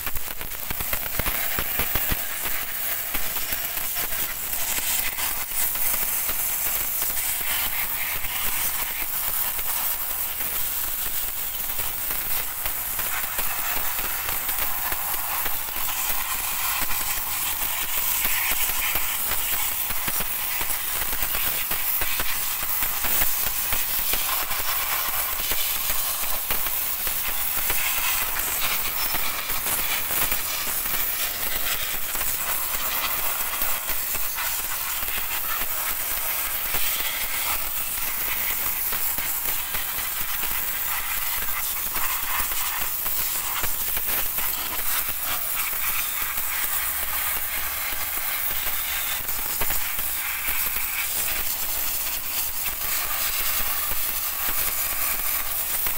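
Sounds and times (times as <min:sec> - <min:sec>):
pressure washer jet hissing: 0:00.0 - 0:55.9.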